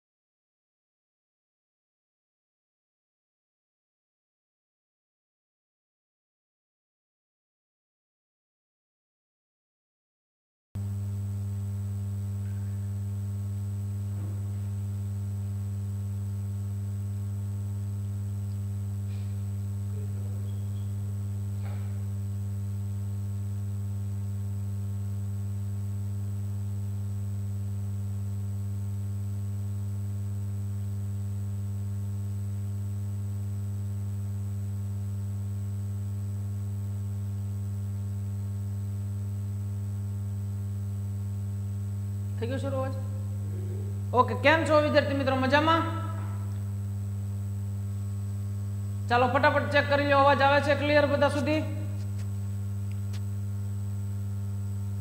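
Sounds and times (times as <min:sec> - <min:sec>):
faint high whine: 0:10.8 - 0:55.0
low electrical hum: 0:10.8 - 0:55.0.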